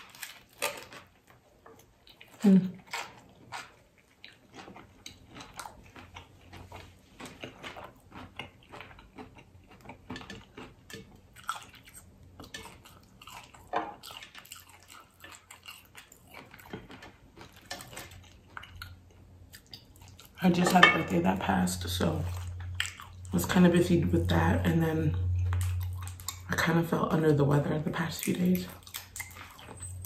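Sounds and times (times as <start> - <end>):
crunchy taco chewing: 0.0 - 20.6, 22.0 - 23.6, 25.4 - 26.6, 28.0 - 30.0.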